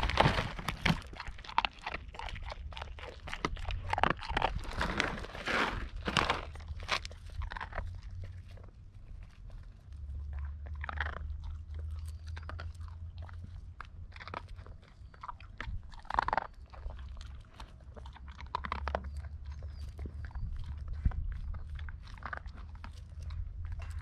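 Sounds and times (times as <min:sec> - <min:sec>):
low steady rumble: 0:00.0 - 0:24.0
pets chewing and crunching food: 0:00.0 - 0:24.0.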